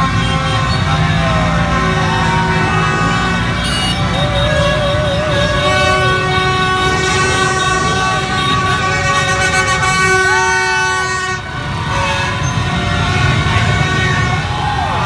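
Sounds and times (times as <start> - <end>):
horns tooting: 0.0 - 15.0
motorbike engines rumbling: 0.0 - 15.0.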